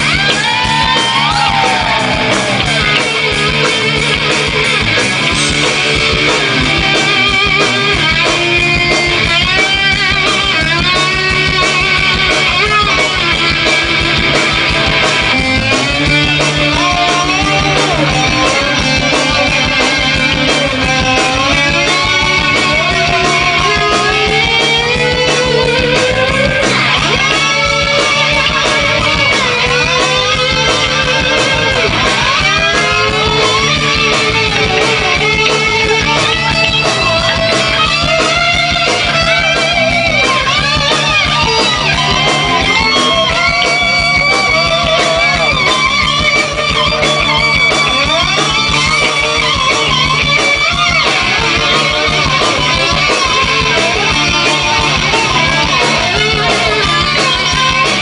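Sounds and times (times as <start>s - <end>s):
live rock band playing: 0.0s - 58.0s
overdriven electric guitar solo: 0.0s - 58.0s.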